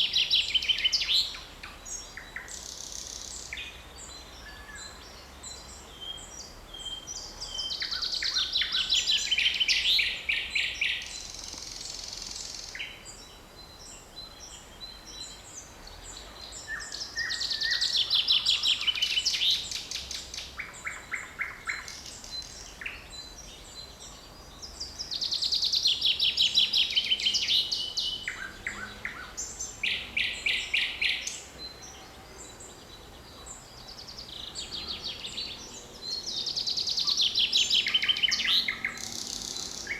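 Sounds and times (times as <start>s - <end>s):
birds calling and chirping: 0.0s - 39.9s
songbird song phrase: 0.0s - 39.9s.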